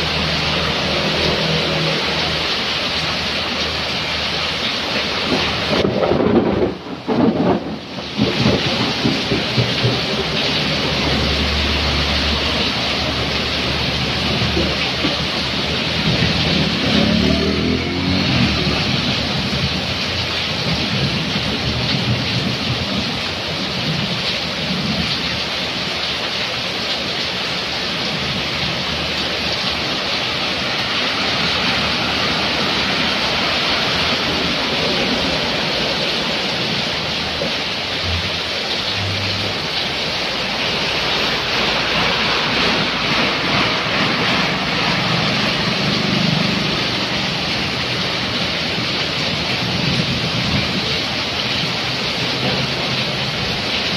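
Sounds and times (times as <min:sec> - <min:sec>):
heavy rain on a flooded road: 0:00.0 - 0:53.9.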